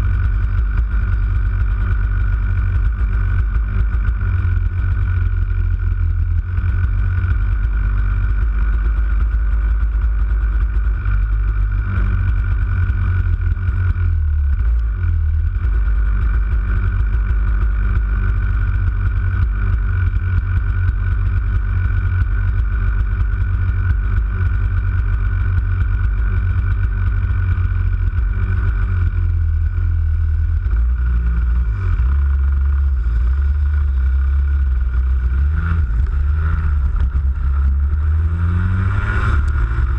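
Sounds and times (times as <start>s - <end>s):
kart engines idling: 0.0s - 38.5s.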